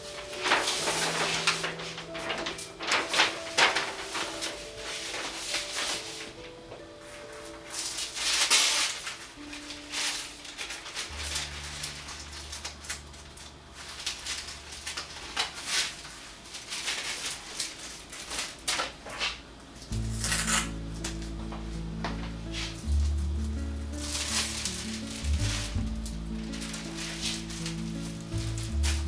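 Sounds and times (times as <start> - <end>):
gentle background music: 0.0 - 16.1, 19.9 - 29.0
plastic sheets crinkling: 0.0 - 29.0.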